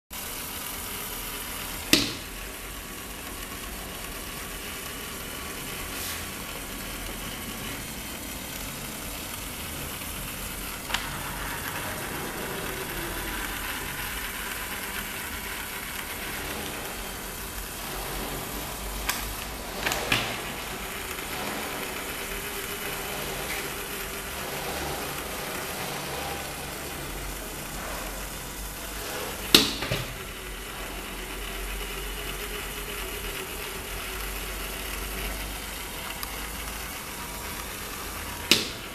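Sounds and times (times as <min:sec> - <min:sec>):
small electric motor and gears running: 0:00.2 - 0:38.9.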